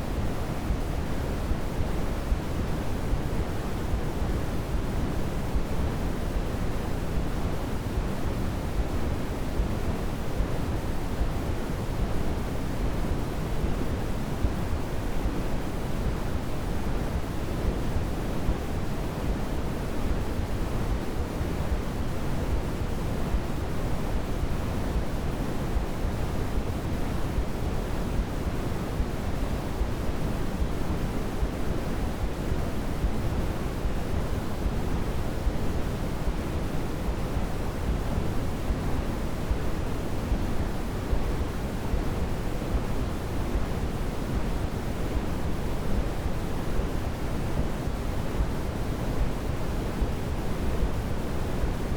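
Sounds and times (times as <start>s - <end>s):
white noise hiss: 0.0s - 51.9s.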